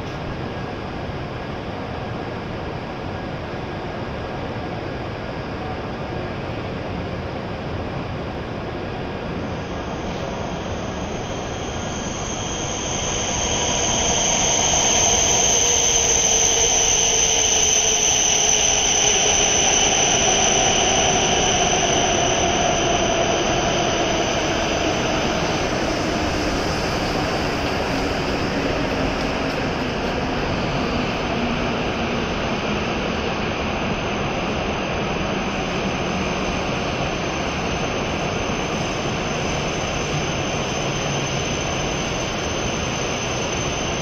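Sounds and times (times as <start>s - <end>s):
train pulling in and slowing: 0.0s - 44.0s
high steady squeal: 7.5s - 44.0s.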